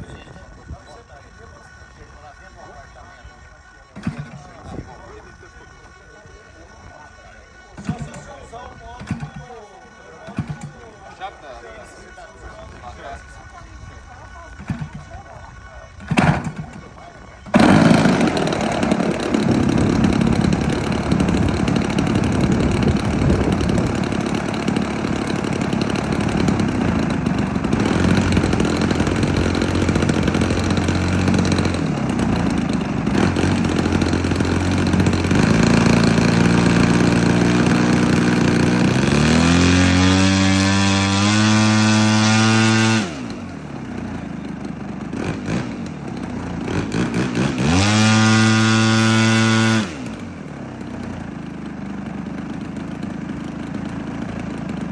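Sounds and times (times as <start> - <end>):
model airplane engine running: 0.0 - 54.9.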